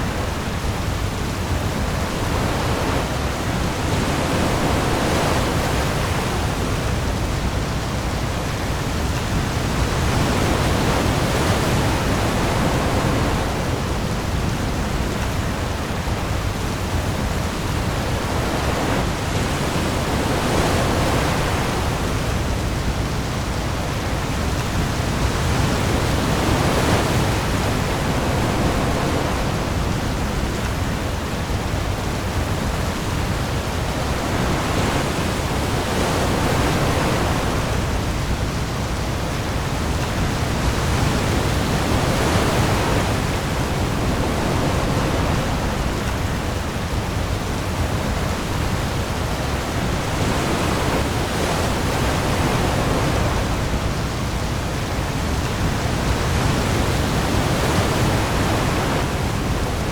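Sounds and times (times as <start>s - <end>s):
heavy rain on the sea: 0.0s - 59.9s
waves: 0.0s - 59.9s.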